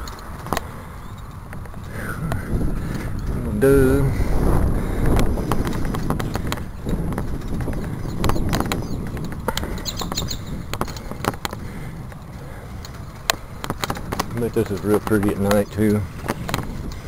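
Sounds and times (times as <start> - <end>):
bicycle clicks and rattles: 0.0 - 3.5, 4.6 - 17.0
wind rumble on microphone: 0.0 - 17.0.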